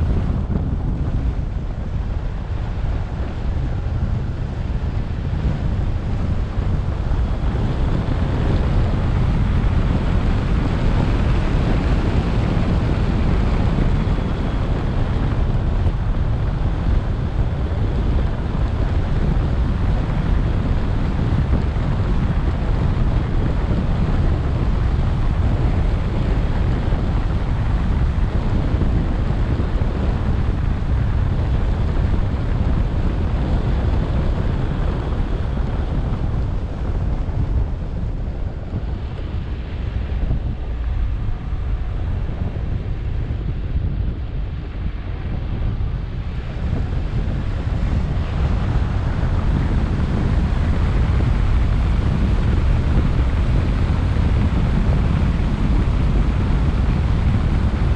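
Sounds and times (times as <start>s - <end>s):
road noise: 0.0s - 57.9s
wind buffeting microphone: 0.0s - 57.9s.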